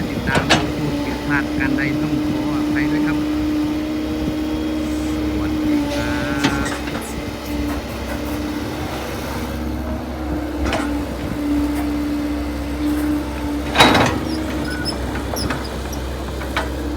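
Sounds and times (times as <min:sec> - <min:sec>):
excavator engine rumbling: 0:00.0 - 0:16.9.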